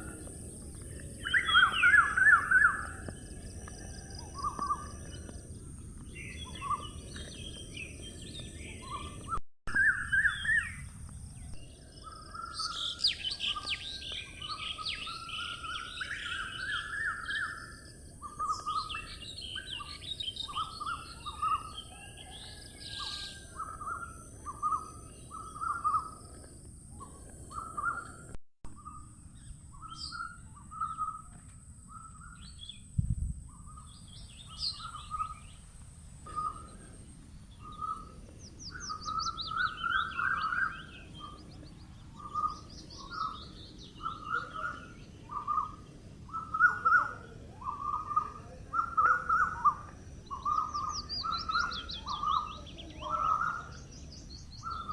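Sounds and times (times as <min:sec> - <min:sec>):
birds chirping and singing: 0:00.0 - 0:54.9
low outdoor rumble: 0:10.4 - 0:54.9.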